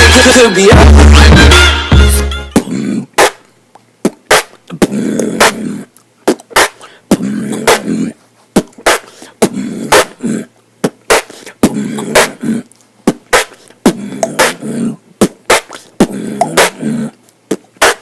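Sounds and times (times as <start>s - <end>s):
beatboxing: 0.0s - 18.0s.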